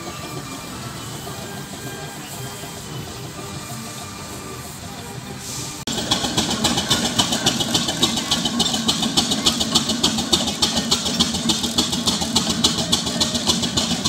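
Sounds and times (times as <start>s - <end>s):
steam roller engine beating: 0.0s - 14.0s.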